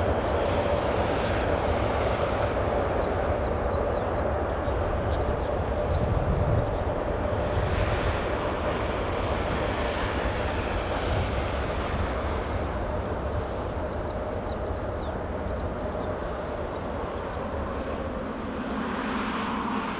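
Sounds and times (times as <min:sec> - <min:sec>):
jet engines rumbling: 0:00.0 - 0:19.9.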